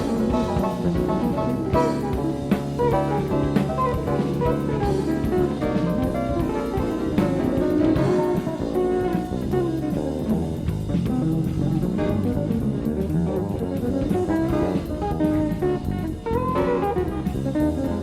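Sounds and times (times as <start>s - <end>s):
electric guitar: 0.0s - 18.0s
jazz fusion band playing: 0.0s - 18.0s.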